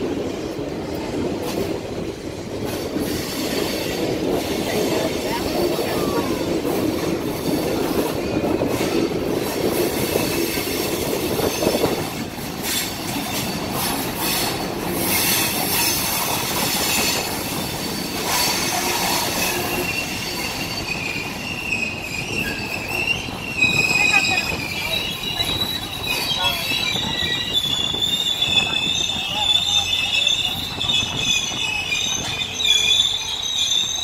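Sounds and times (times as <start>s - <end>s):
train wheels rumbling on rails: 0.0s - 34.0s
high wheel squeal: 3.0s - 34.0s.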